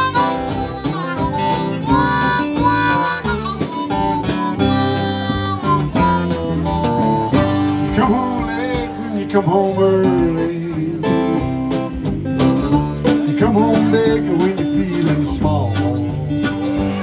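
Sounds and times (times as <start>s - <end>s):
drum kit: 0.0s - 17.0s
harmonica with bending notes: 0.0s - 17.0s
strummed guitars: 0.0s - 17.0s.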